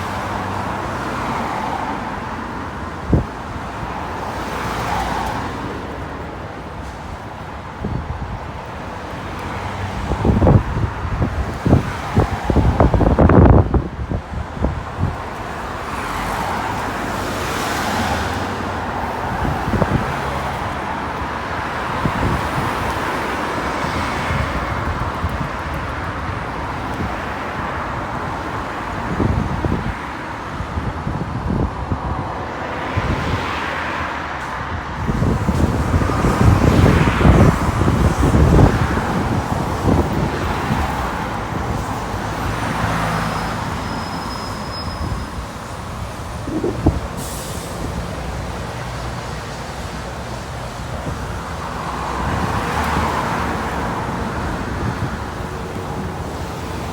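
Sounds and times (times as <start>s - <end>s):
vehicles passing: 0.0s - 56.9s.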